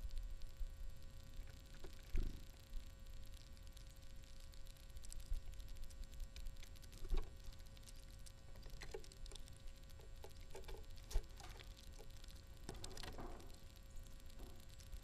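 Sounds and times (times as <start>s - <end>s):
seed clicks and rattles: 1.3s - 15.0s.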